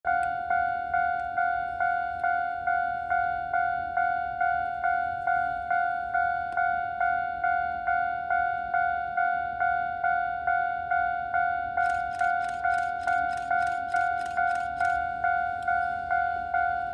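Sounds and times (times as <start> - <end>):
level crossing bell ringing: 0.1 - 16.9.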